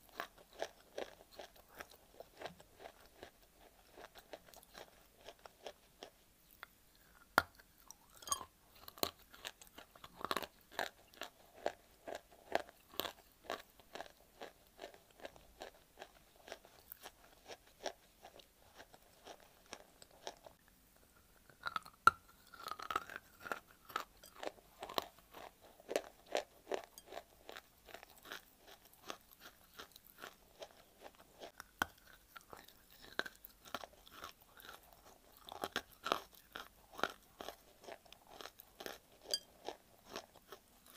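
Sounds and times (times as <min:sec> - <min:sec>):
crisp crunching of chewing clay: 0:00.0 - 0:40.9.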